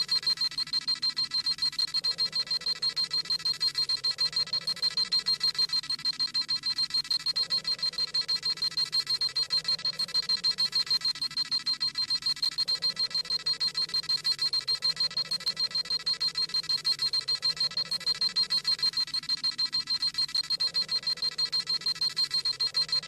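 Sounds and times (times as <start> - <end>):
rapid high electronic beeping: 0.0 - 23.0.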